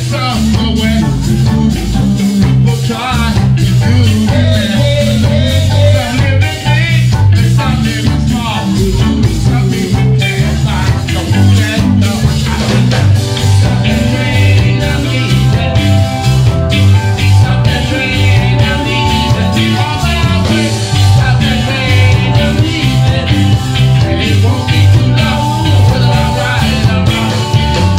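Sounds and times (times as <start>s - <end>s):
bass line: 0.0s - 27.9s
live reggae band playing: 0.0s - 27.9s
man singing: 0.0s - 27.9s.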